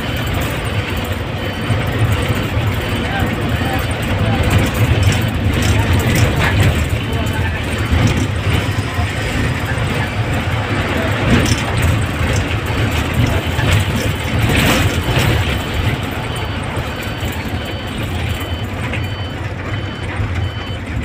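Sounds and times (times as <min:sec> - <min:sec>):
bus engine rumble: 0:00.0 - 0:21.0
road and wind noise: 0:00.0 - 0:21.0.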